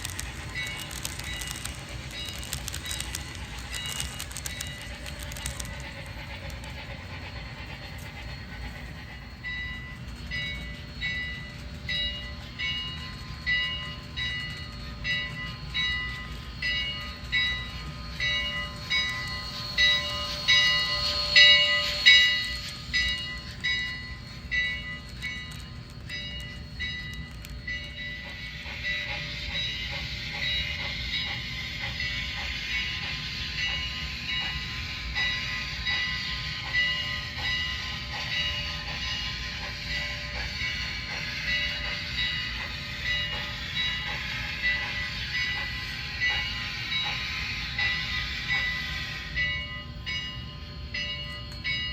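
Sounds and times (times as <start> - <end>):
steady hiss: 0.0 - 9.4, 14.8 - 50.8.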